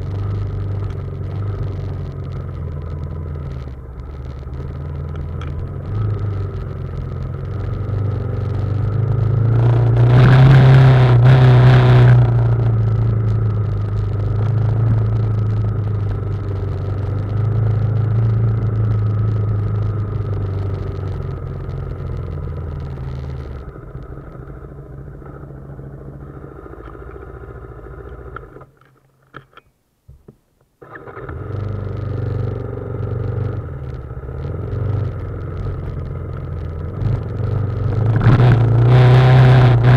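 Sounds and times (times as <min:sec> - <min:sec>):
motorcycle engine running: 0:00.0 - 0:28.6, 0:31.2 - 0:39.9.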